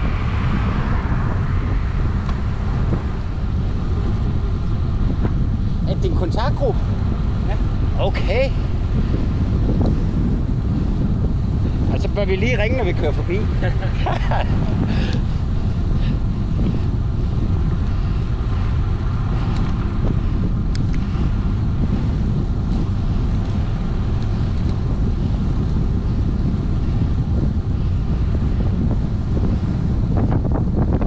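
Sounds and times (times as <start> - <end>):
bicycle tyres rolling on asphalt: 0.0 - 31.0
wind buffeting microphone: 0.0 - 31.0.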